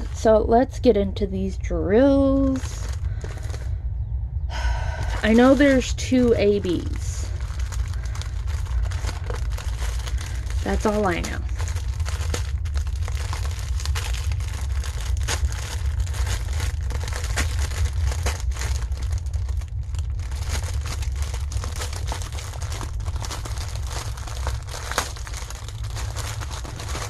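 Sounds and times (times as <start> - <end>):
plastic packaging crinkling: 0.0 - 0.8, 2.0 - 3.8, 4.5 - 27.0
steady low hum: 0.0 - 27.0.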